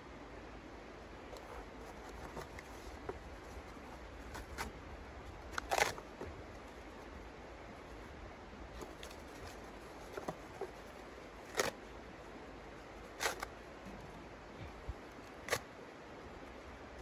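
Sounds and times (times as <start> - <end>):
faint clicks and rustles: 1.2 - 17.0.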